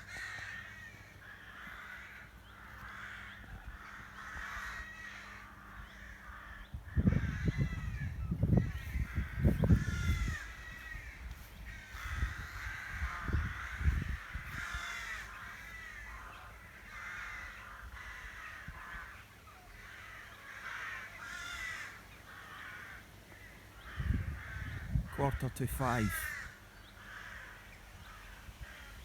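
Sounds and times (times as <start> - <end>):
rooks cawing: 0.0 - 29.0.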